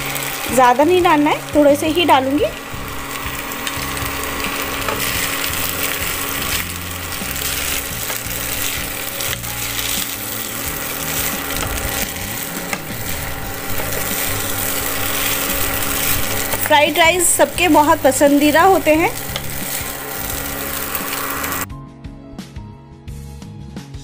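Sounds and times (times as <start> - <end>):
frying sizzle: 0.0 - 21.7.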